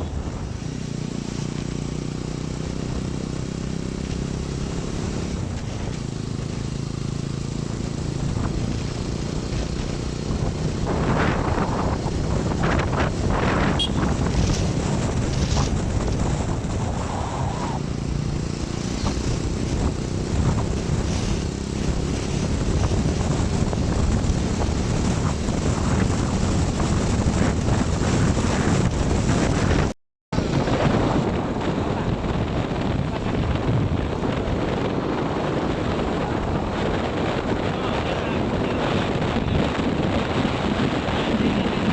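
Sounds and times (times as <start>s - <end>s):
engine and tyre rumble: 0.0s - 41.9s
vehicles passing: 0.0s - 41.9s
wind buffeting microphone: 0.0s - 41.9s.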